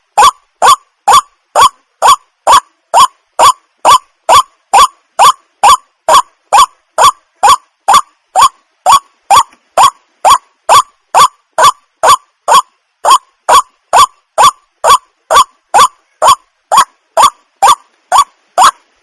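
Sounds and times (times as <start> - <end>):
waterhen calling: 0.0 - 18.8.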